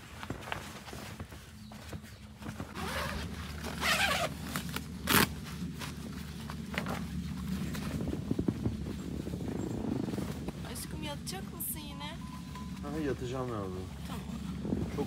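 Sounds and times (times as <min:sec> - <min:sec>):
rustling and handling noises: 0:00.0 - 0:15.0
steady low hum: 0:00.0 - 0:15.0.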